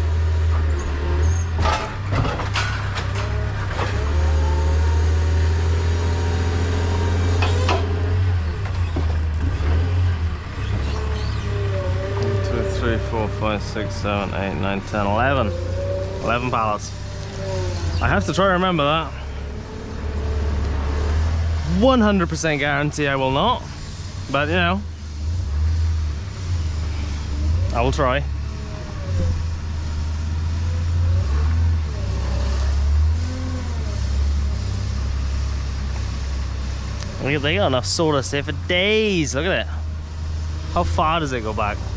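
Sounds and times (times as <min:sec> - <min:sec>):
vehicle engine humming: 0:00.0 - 0:41.9.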